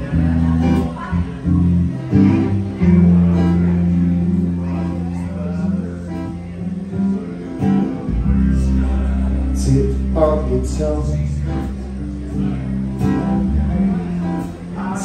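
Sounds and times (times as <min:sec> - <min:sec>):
bass guitar: 0:00.0 - 0:15.0
live rock band playing: 0:00.0 - 0:15.0
strummed acoustic guitar: 0:00.0 - 0:15.0.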